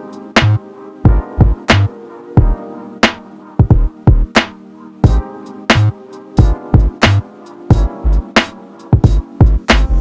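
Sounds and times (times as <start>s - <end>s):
held synth chords: 0.0s - 10.0s
programmed drum beat: 0.0s - 10.0s.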